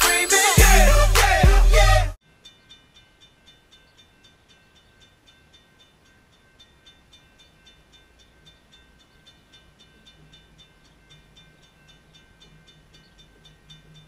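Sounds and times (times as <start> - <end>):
railroad crossing bell ringing: 2.2 - 14.0.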